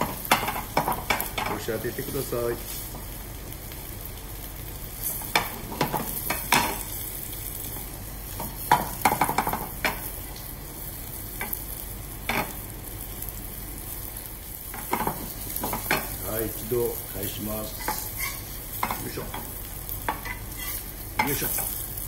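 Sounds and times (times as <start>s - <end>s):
fish sizzling in frying pan: 0.0s - 22.0s.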